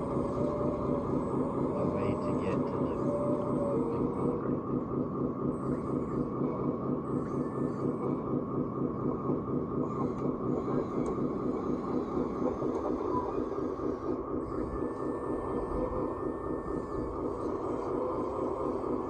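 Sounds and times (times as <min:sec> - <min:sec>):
electric motors whirring: 0:00.0 - 0:19.0
hydraulic pump running: 0:00.0 - 0:19.0.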